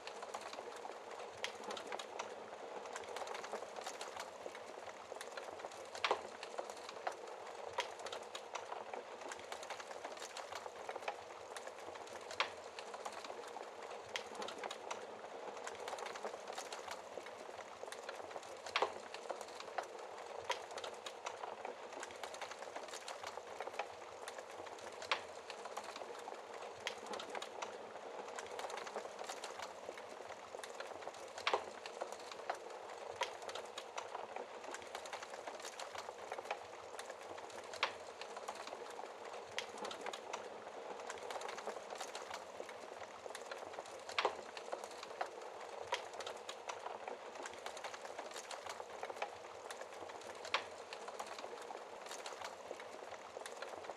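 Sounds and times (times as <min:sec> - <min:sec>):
fire popping: 0:00.0 - 0:53.9
wood fire crackling: 0:00.0 - 0:53.9.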